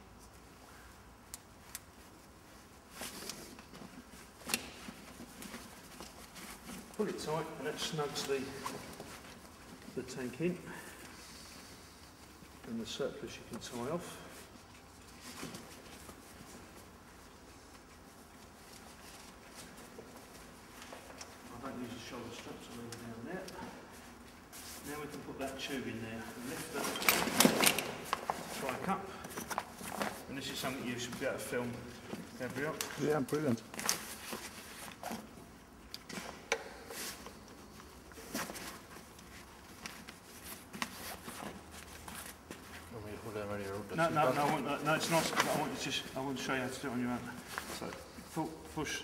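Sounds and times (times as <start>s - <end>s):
strap rustling and handling: 0.1s - 49.0s.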